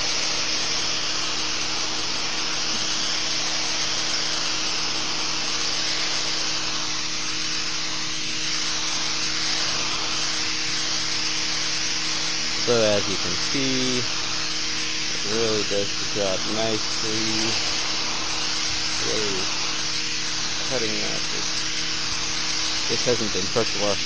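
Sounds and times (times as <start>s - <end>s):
pump motor humming: 0.0s - 24.0s
water jet hissing on concrete: 0.0s - 24.0s.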